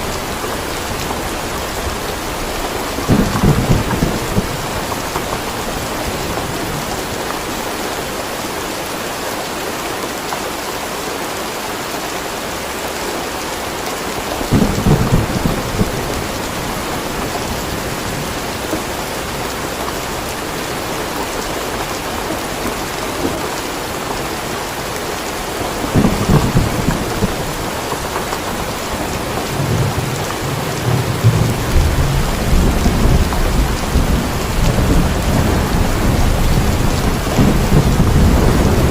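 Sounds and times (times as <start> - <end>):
thunder rumbling: 0.0 - 7.5, 14.4 - 38.9
heavy rain falling: 0.0 - 38.9.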